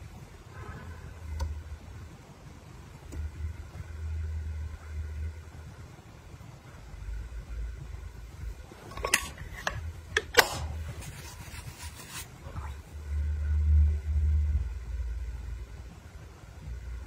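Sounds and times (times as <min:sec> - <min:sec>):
dull low handling rumble: 0:00.0 - 0:17.0.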